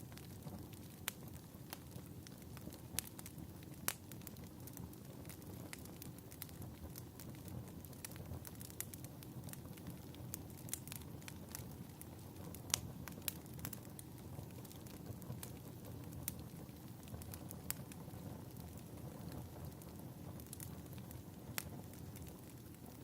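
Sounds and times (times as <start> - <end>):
fireplace crackling: 0.0 - 23.0.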